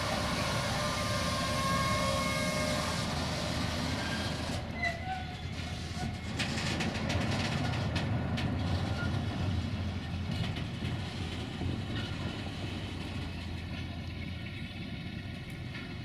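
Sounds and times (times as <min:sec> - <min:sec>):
diesel train rumbling past: 0:00.0 - 0:16.0.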